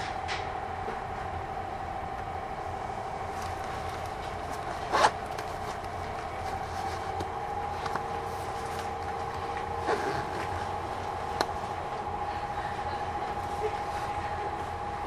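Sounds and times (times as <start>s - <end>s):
electric train equipment hum: 0.0s - 15.0s.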